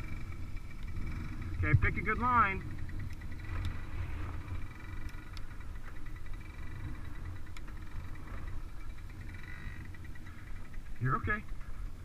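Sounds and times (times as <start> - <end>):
low rumble: 0.0 - 11.8
small dirt bike engine: 0.0 - 12.0.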